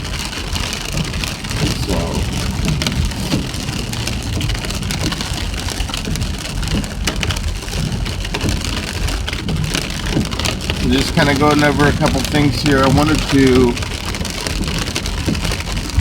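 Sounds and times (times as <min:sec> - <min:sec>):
rain pattering on car roof: 0:00.0 - 0:16.0
road rumble: 0:00.0 - 0:16.0.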